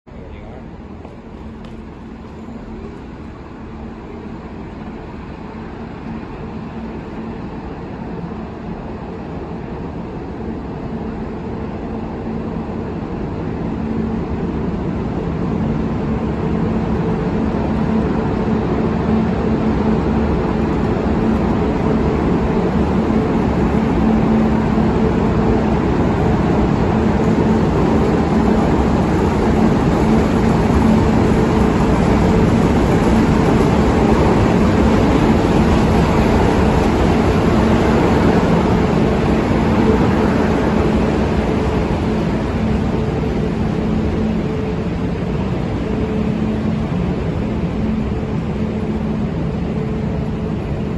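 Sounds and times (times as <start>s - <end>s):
model train rumbling: 0.1s - 50.9s.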